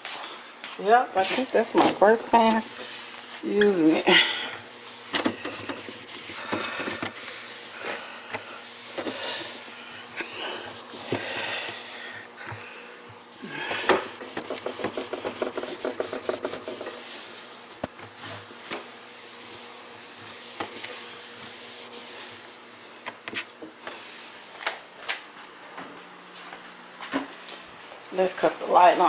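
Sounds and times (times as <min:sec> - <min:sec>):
scrubbing rubbing strokes: 0:00.8 - 0:24.6.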